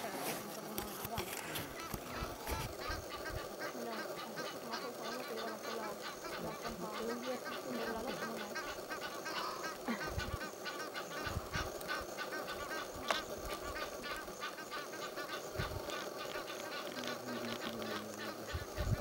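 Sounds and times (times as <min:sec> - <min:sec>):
birds chirping and honking: 0:01.4 - 0:19.0.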